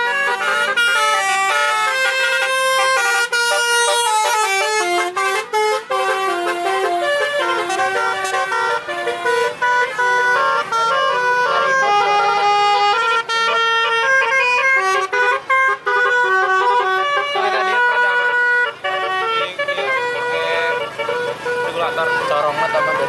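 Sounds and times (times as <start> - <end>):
musical air horn playing a tune: 0.0 - 23.0.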